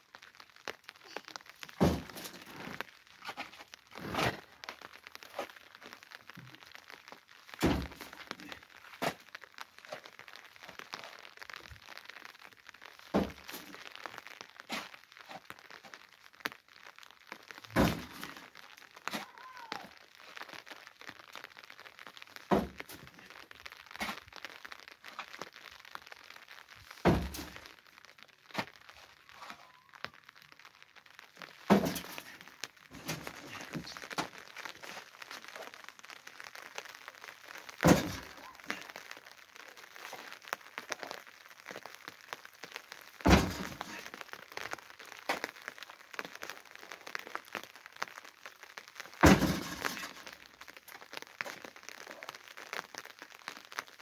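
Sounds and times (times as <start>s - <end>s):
light clicks and crackles: 0.1s - 54.0s.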